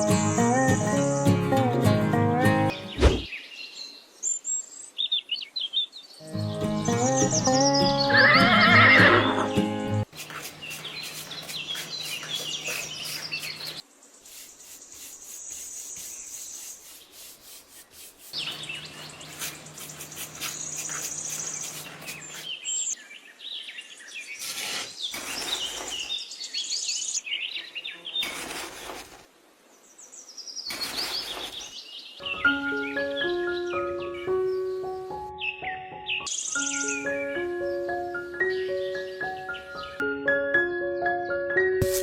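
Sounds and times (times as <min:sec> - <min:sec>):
birds chirping: 0:00.0 - 0:29.0, 0:29.8 - 0:40.0.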